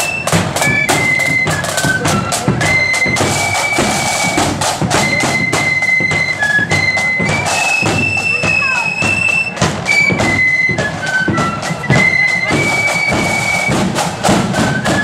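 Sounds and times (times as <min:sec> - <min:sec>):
flute melody: 0:00.0 - 0:15.0
heavy drumming: 0:00.0 - 0:15.0.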